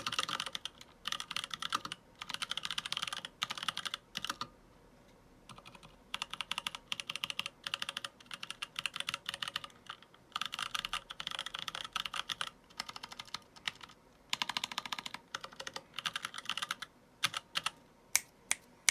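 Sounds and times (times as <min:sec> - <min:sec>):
mechanical keyboard typing: 0:00.0 - 0:04.5, 0:05.5 - 0:18.3.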